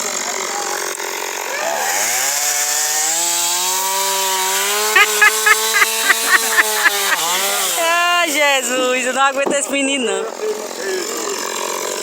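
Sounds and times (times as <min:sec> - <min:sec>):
chainsaw engine revving: 0:00.1 - 0:08.8, 0:10.4 - 0:12.0.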